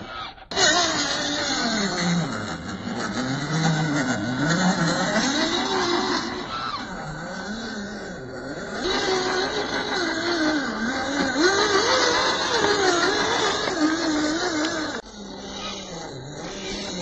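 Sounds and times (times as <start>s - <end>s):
rc car electric motor whining: 0.0s - 17.0s.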